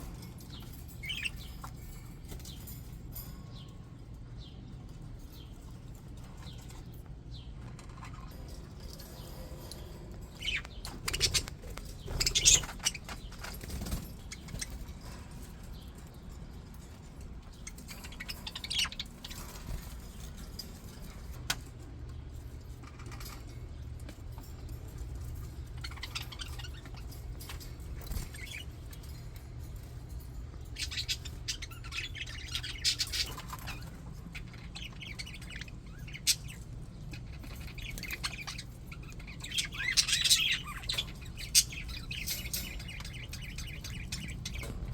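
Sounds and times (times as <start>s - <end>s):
budgies chirping and chattering: 0.0s - 44.9s
steady low hum: 0.0s - 44.9s.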